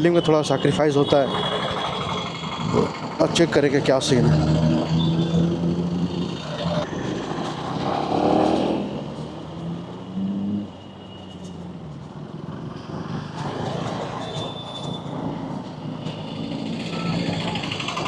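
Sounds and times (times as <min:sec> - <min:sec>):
traffic noise: 0:00.0 - 0:18.0
motorcycle engine revving: 0:01.0 - 0:11.0, 0:11.7 - 0:18.0.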